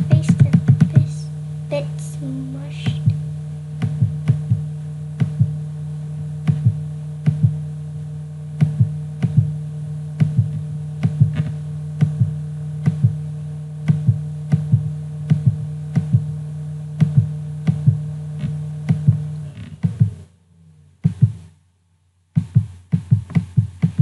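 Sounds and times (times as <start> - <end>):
soft repeating double beat: 0.0 - 20.3, 21.0 - 21.6, 22.4 - 24.0
low drone: 0.0 - 21.5.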